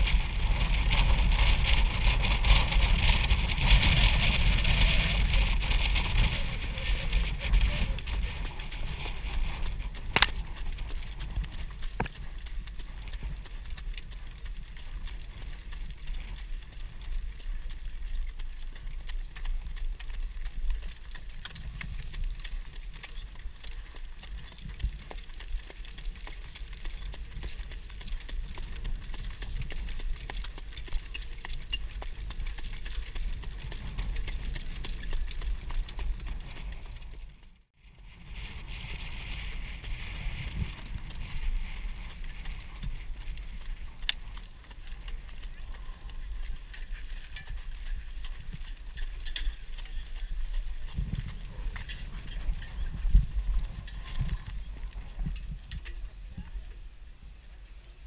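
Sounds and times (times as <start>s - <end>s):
hooves clip-clopping on dirt: 0.0s - 58.0s
wind rumbling on microphone: 0.0s - 58.0s.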